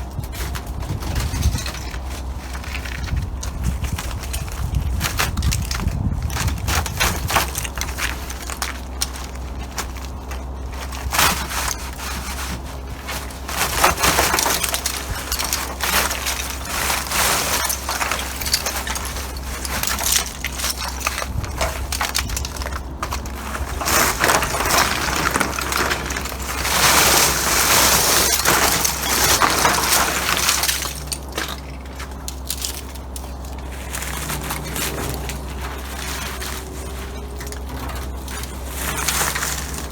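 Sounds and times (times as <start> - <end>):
crunching and scraping of ice: 0.0 - 39.9.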